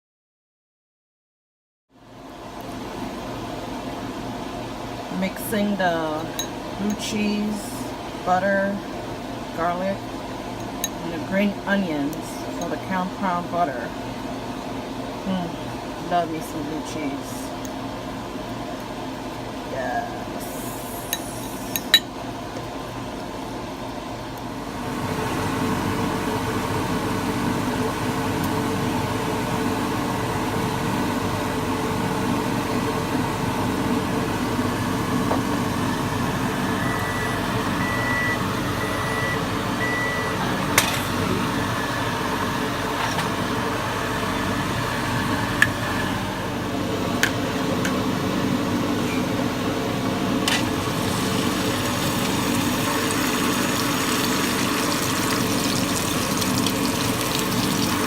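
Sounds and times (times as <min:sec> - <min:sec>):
kitchen appliance hum: 0:02.0 - 0:58.0.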